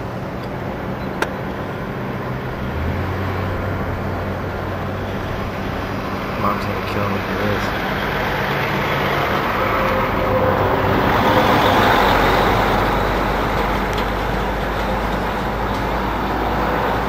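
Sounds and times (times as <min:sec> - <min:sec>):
low engine rumble: 0:00.0 - 0:17.0
vehicle passing by: 0:00.0 - 0:17.0.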